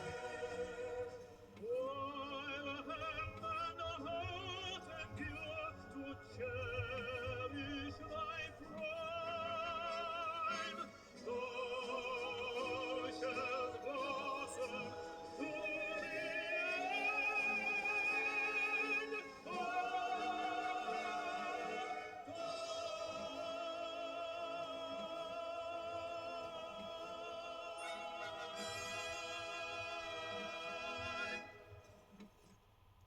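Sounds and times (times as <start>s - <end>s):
operatic singer on a record: 0.0s - 32.5s.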